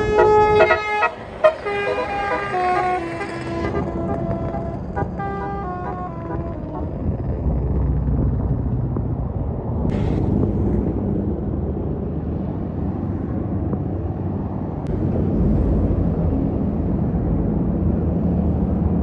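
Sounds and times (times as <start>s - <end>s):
diesel bus engines rumbling: 0.0s - 19.0s.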